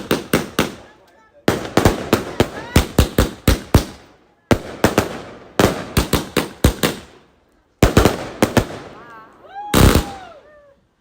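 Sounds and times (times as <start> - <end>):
fireworks bangs: 0.0 - 10.3.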